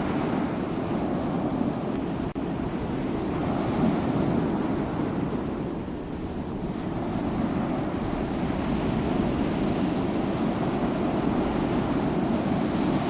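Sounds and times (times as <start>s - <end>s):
sea waves rushing: 0.0s - 13.0s.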